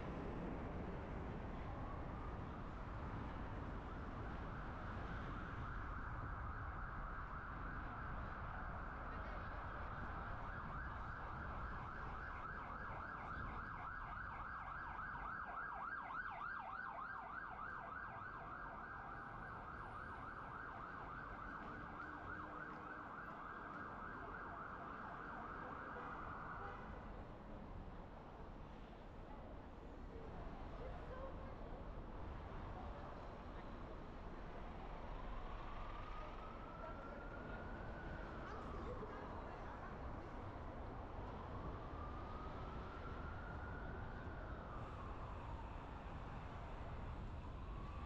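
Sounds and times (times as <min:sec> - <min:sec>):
emergency vehicle siren: 0:00.0 - 0:48.0
road noise: 0:00.0 - 0:48.0.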